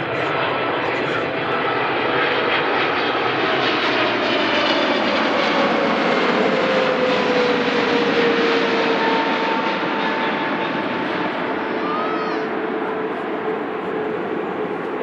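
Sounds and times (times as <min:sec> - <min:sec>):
jet airliner passing: 0:00.0 - 0:15.0.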